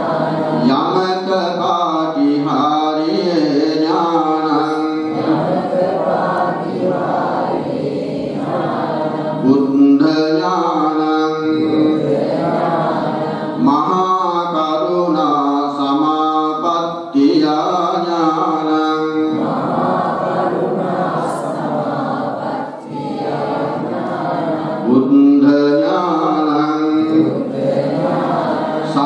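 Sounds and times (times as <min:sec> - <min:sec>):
monks chanting through microphone: 0:00.0 - 0:29.0.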